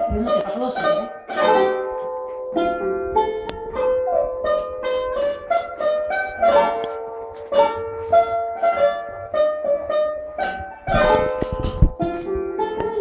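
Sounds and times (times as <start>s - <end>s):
plucked zither melody: 0.0s - 13.0s.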